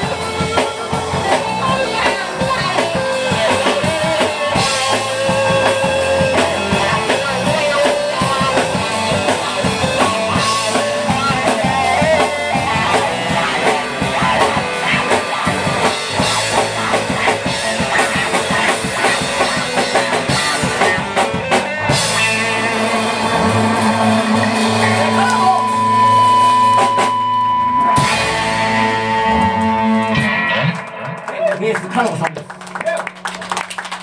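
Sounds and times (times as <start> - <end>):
drum kit beat: 0.0 - 34.0
electric guitar: 0.0 - 34.0.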